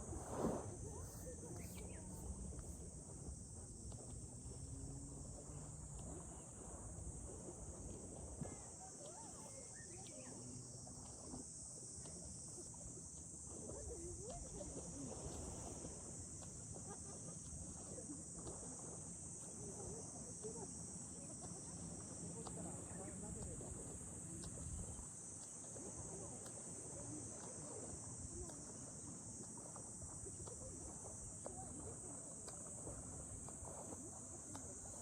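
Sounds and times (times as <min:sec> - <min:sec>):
faint distant voices: 0:00.0 - 0:35.0
insect chorus droning: 0:00.0 - 0:35.0.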